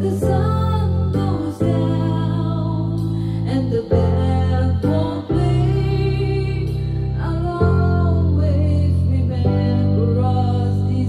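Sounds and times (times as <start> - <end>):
backing track of held chords: 0.0 - 11.0
person singing into a microphone: 0.0 - 11.0.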